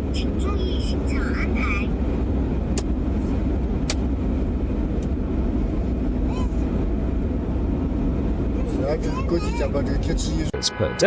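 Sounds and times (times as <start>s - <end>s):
vehicle rumbling on road: 0.0s - 11.0s.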